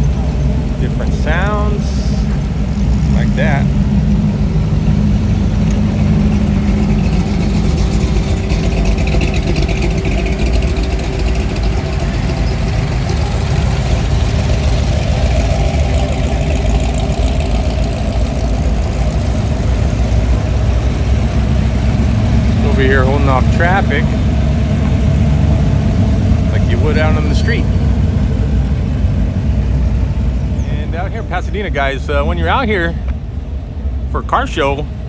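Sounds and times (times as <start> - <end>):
car engines idling: 0.0 - 35.0.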